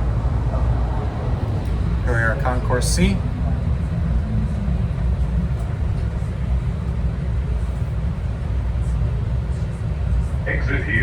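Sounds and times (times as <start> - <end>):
train car rumble: 0.0 - 11.0.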